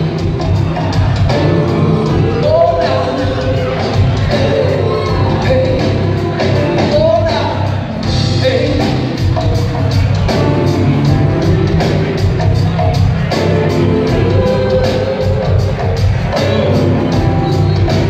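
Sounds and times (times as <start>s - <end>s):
drum kit beat: 0.0s - 18.0s
live band playing: 0.0s - 18.0s.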